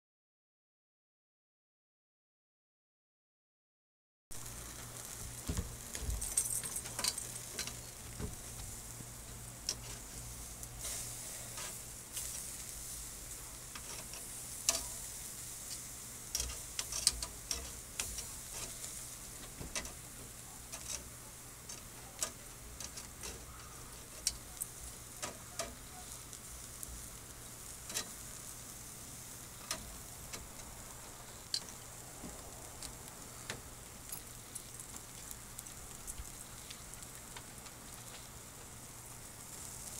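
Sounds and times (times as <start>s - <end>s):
food sizzling on a grill: 4.4s - 39.9s.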